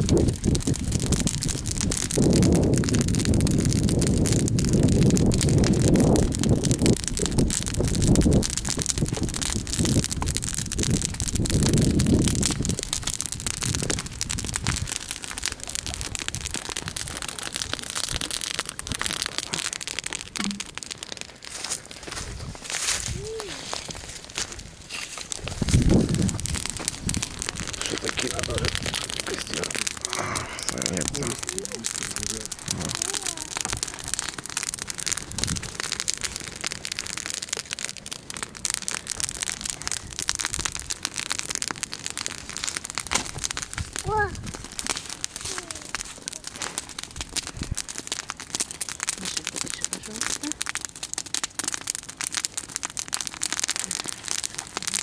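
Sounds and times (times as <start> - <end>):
wind rumbling on microphone: 0.0 - 20.2, 22.1 - 37.4, 38.0 - 46.4, 47.0 - 48.2
bonfire crackling and popping: 0.0 - 55.0.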